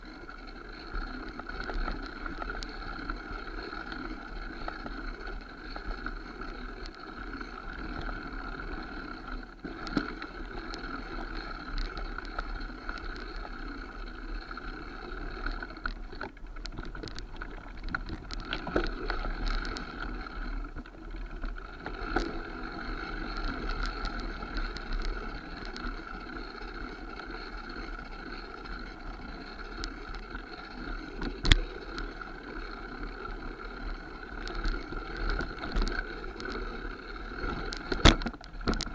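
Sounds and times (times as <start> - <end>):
bike tyre and wind noise: 0.0 - 38.9.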